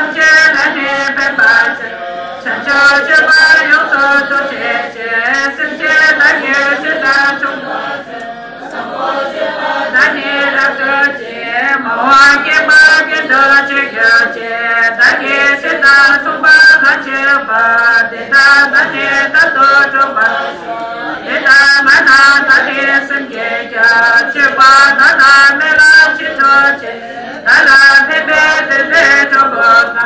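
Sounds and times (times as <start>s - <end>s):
group of voices chanting prayers: 0.0s - 30.0s.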